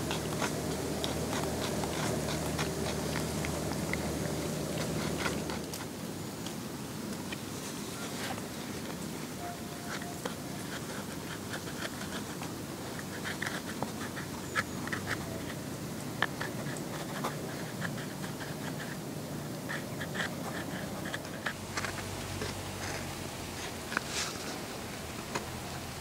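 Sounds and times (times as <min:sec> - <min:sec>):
rawhide strip scratching and clicking: 0:00.0 - 0:06.0, 0:09.8 - 0:25.8
steady outdoor hiss: 0:00.0 - 0:26.0.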